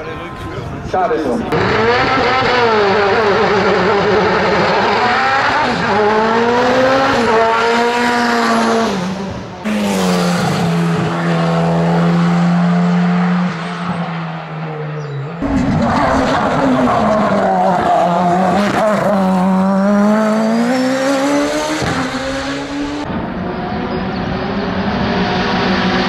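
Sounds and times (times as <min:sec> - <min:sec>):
race car engines at full throttle: 0:00.0 - 0:26.0.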